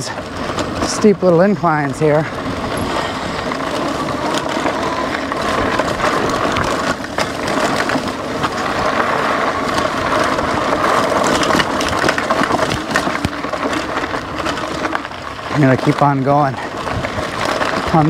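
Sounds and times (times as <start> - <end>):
electric motor whining: 0.0 - 15.7
bike clicks and rattles: 0.0 - 18.0
tyres crunching over gravel: 0.0 - 18.0.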